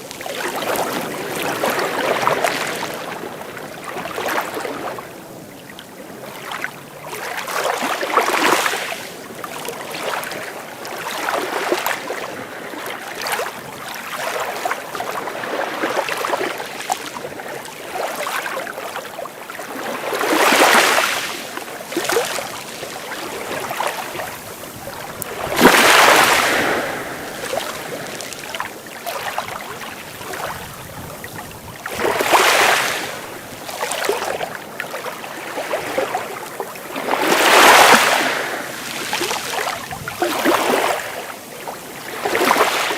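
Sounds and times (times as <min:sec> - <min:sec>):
sea waves breaking ashore: 0:00.0 - 0:42.9.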